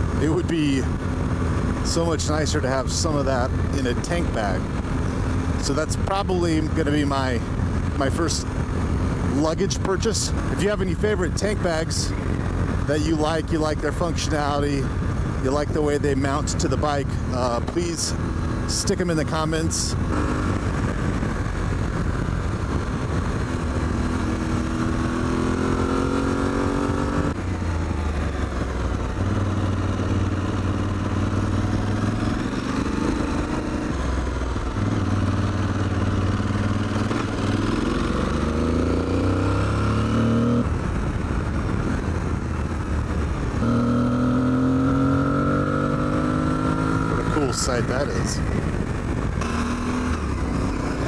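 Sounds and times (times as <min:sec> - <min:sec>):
motorcycle engine accelerating: 0:00.0 - 0:51.0
wind and road noise: 0:00.0 - 0:51.0.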